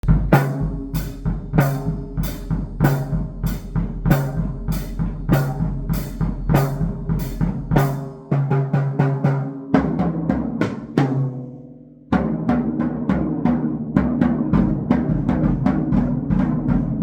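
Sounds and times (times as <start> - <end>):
electronic drum beat: 0.0 - 11.1, 14.2 - 17.0.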